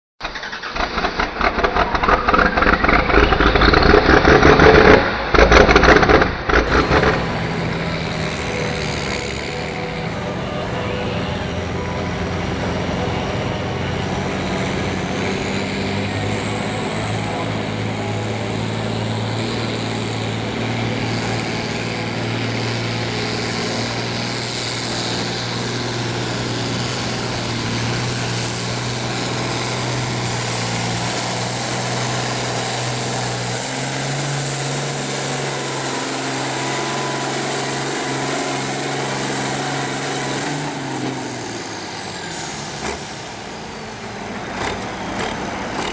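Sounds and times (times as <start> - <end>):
tractor engine under load: 0.2 - 45.9.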